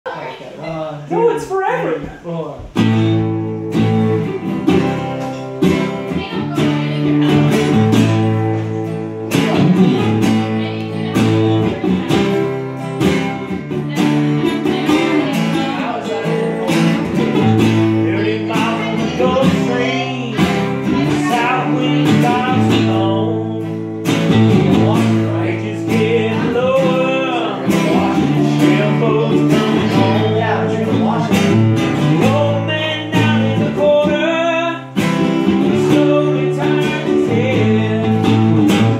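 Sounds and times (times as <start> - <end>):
acoustic guitars strumming: 1.0 - 38.9.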